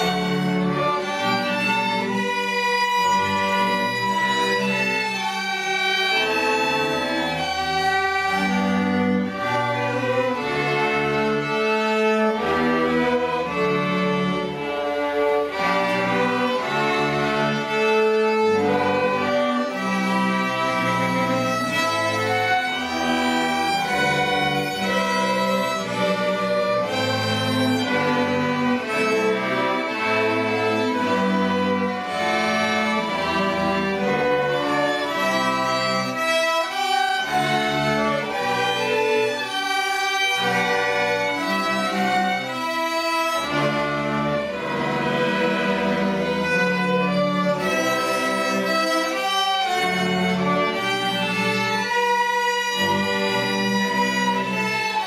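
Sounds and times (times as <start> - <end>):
string orchestra playing: 0.0 - 55.0.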